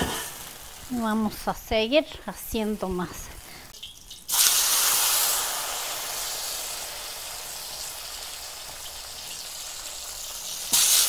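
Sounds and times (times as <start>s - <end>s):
tortilla sizzling in hot oil: 0.0s - 1.6s, 2.6s - 11.0s.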